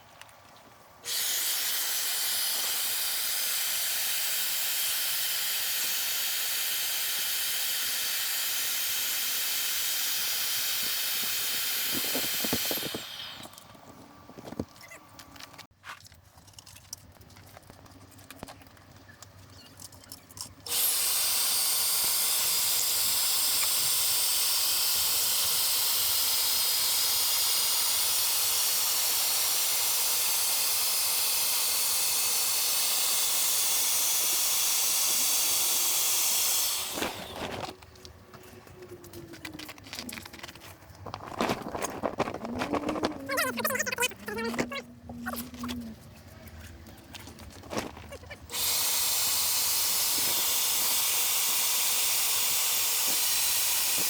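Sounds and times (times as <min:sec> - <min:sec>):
electric air pump running: 0:01.0 - 0:14.7, 0:20.7 - 0:54.0.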